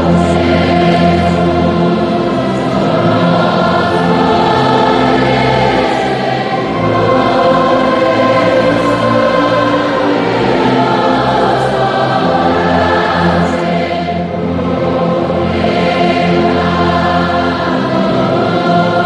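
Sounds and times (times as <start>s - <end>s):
choral music: 0.0s - 19.0s.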